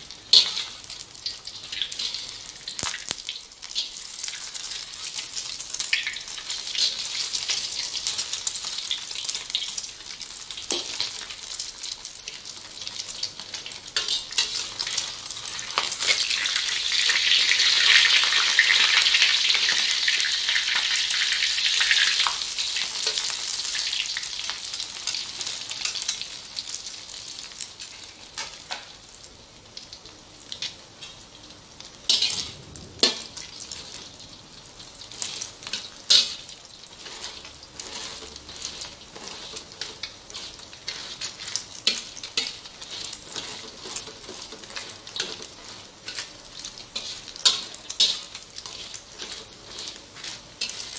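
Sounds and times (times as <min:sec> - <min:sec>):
egg sizzling in oil: 0:00.0 - 0:50.9.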